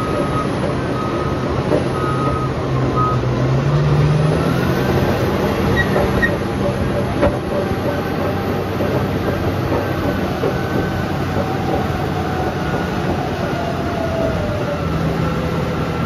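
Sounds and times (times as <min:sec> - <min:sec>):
bulldozer clattering rumble: 0:00.0 - 0:16.0.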